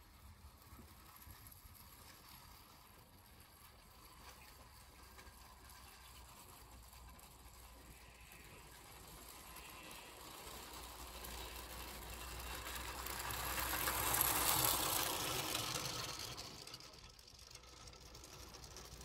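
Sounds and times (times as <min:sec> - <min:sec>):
clockwork mechanism whirring: 0:00.0 - 0:19.0
toy train wheels on track: 0:00.0 - 0:19.0.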